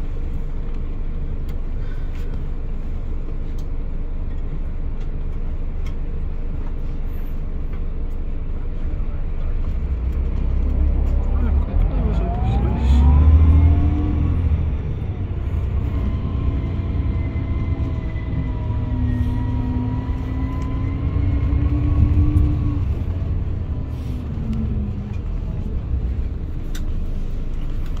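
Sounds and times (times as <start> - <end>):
coach engine rumble: 0.0 - 28.0.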